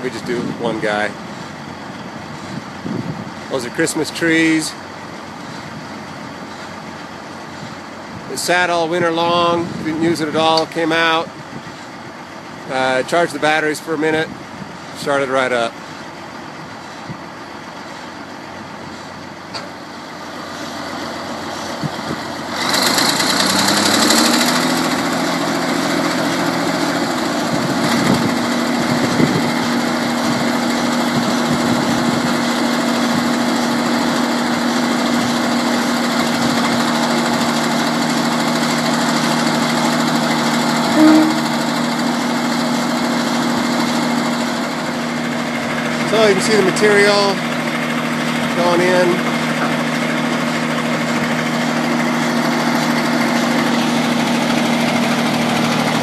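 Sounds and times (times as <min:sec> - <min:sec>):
diesel engine revving up: 0:00.0 - 0:56.0.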